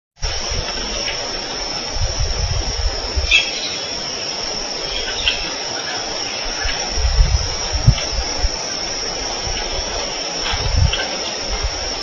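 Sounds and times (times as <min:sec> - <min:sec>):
insect chorus: 0:00.2 - 0:12.0.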